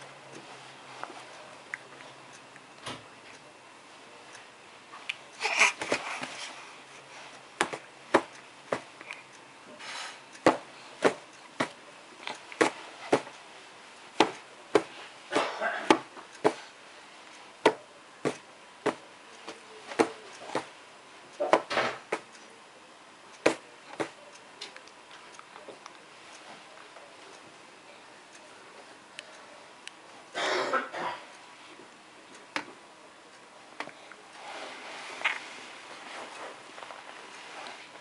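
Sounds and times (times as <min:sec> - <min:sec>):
soft noisy bursts: 0:00.0 - 0:38.0.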